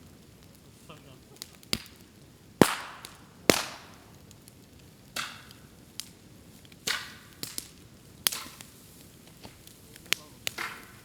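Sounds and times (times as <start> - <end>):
bamboo popping in a fire: 0.0 - 11.0
fire crackling: 0.0 - 11.0.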